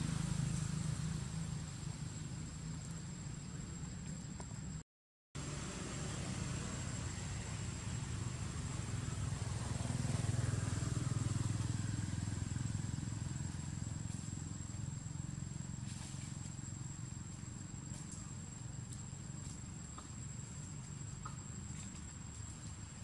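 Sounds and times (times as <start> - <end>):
high insect trill: 0.0 - 4.8, 5.4 - 23.0
motorbike rumble: 0.0 - 4.8, 5.4 - 23.0.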